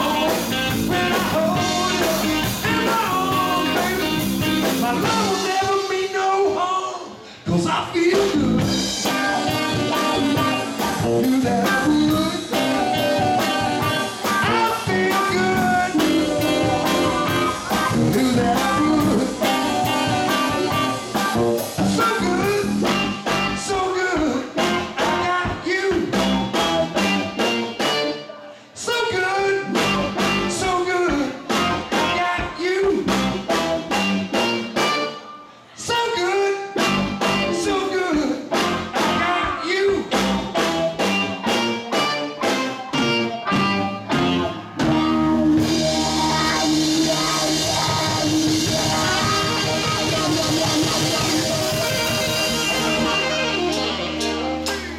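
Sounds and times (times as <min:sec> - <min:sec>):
live funk band playing: 0:00.0 - 0:54.9.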